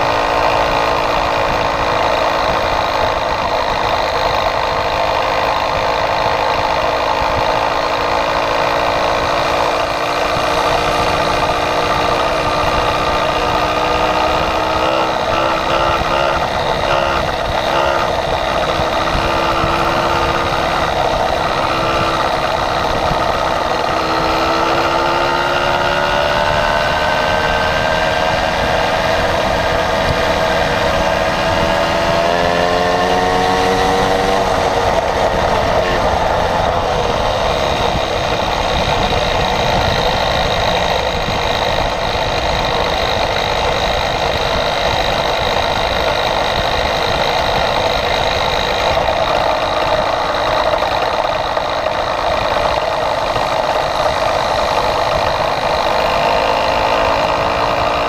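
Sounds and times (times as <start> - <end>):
second steadier engine: 0.0 - 58.0
small motorbike engine running: 0.0 - 58.0.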